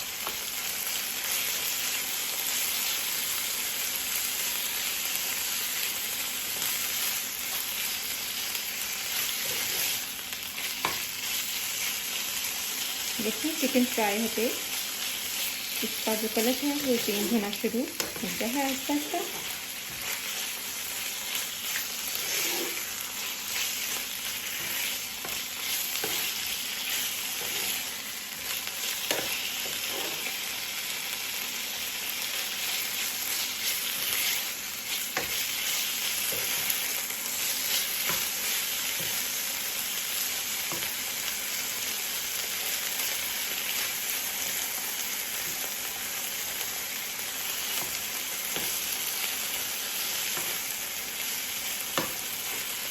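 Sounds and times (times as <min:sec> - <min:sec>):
food frying in oil: 0:00.0 - 0:52.9.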